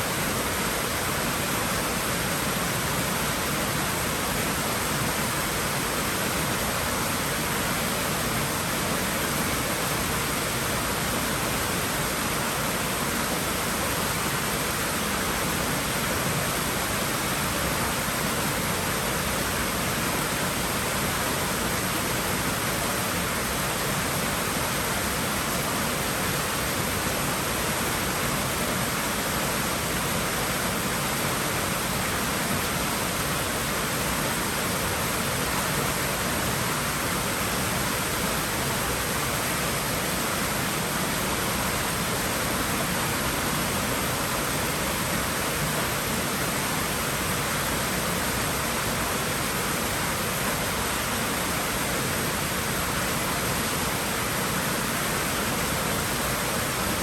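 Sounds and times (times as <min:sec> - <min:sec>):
pool water rushing: 0:00.0 - 0:57.0.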